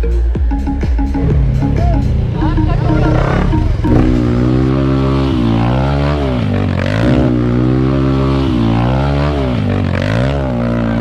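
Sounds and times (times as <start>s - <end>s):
dirt bike engine revving: 1.0s - 11.0s.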